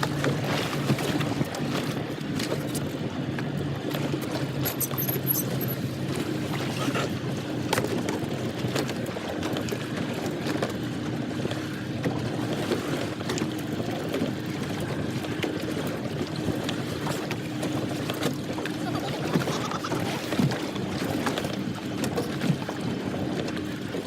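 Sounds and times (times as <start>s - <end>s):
boat engine humming: 0.0s - 24.0s
water noise: 0.0s - 24.0s.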